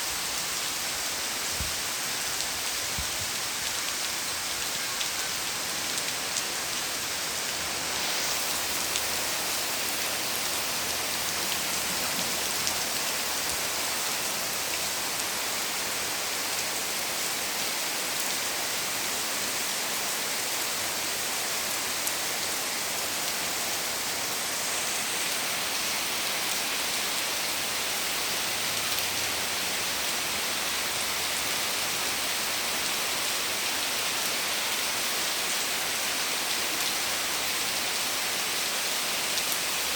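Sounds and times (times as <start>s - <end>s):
heavy rain falling among trees: 0.0s - 39.9s.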